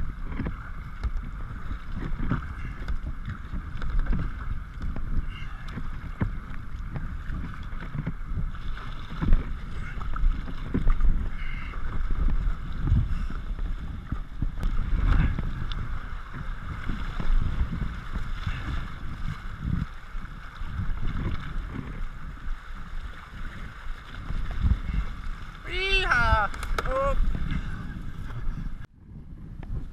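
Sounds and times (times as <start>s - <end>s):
paddle strokes in water: 0.0s - 28.9s
wind buffeting microphone: 0.0s - 29.9s.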